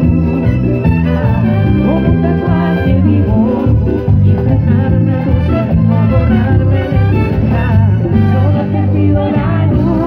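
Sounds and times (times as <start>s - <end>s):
bass line: 0.0s - 10.0s
live band playing cumbia: 0.0s - 10.0s.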